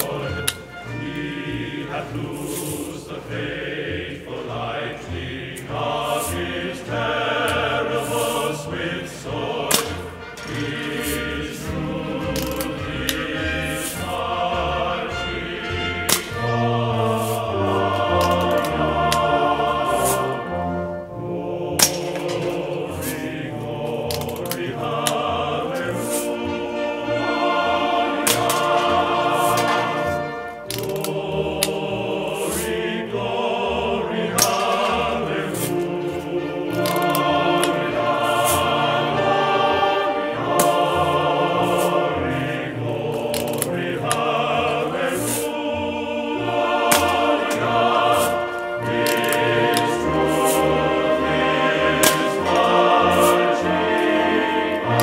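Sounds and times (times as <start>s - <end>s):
backing music: 0.0s - 55.0s
choir singing an anthem: 0.0s - 55.0s.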